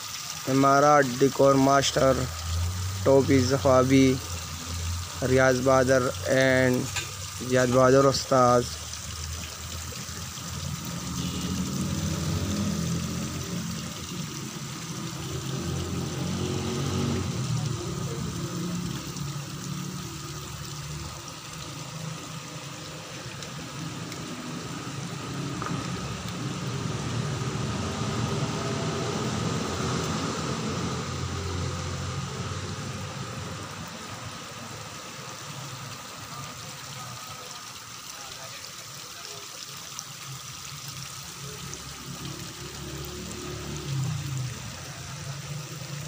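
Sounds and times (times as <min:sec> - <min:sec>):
water trickling into pond: 0:00.0 - 0:46.0.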